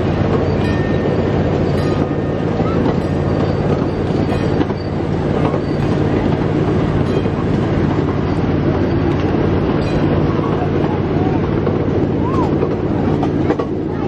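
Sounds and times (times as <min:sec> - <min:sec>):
miniature train wheels rumbling: 0:00.0 - 0:14.0.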